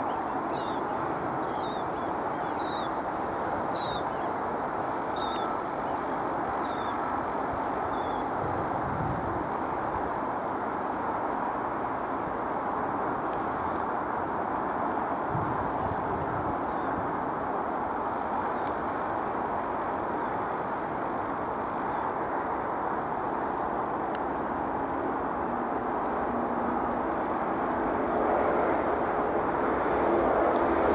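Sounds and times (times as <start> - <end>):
rushing outdoor background noise: 0.0 - 30.9.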